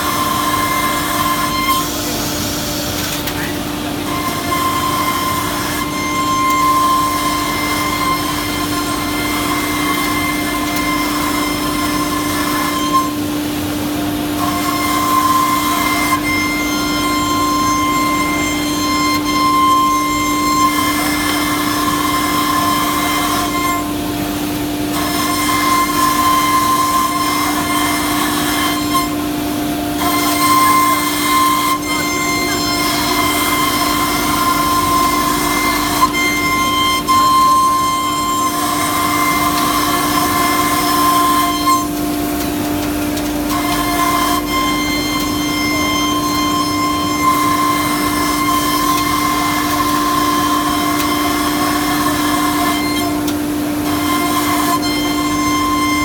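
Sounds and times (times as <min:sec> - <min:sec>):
router spindle whine: 0:00.0 - 0:56.0.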